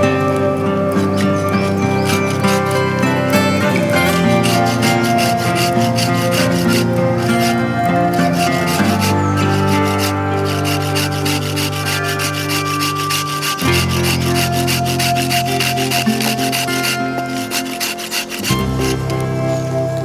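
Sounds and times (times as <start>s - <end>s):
hand saw cutting wood: 0.0s - 19.2s
background music with held chords: 0.0s - 20.0s.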